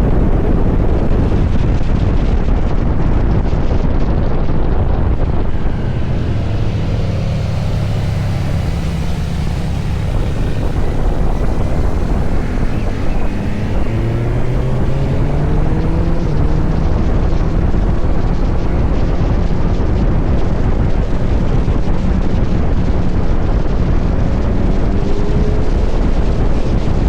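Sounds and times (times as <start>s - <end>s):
motorcycle engine accelerating: 0.0s - 27.0s
wind buffeting microphone: 0.0s - 27.0s.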